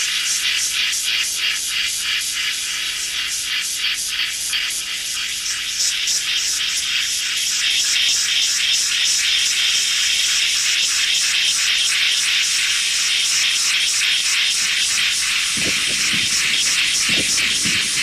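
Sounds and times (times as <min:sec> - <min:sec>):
pulsing static hiss: 0:00.0 - 0:18.0.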